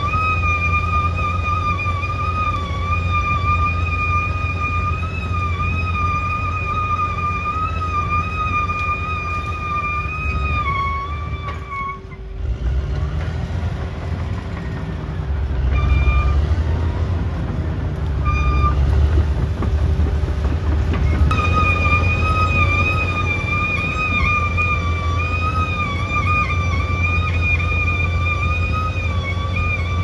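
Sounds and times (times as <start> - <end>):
high whine: 0.0 - 12.4, 15.4 - 30.0
bulldozer diesel engine rumbling: 0.0 - 30.0.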